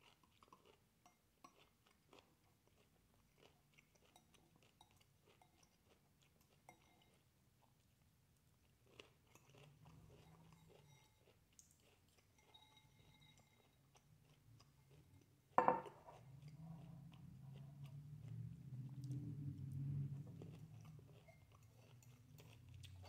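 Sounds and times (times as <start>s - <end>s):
person chewing broccoli: 0.0s - 0.8s, 1.5s - 23.0s.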